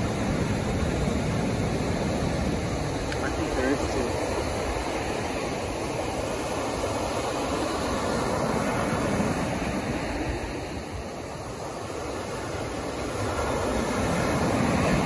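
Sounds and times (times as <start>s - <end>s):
ocean surf on sandy beach: 0.0s - 15.0s.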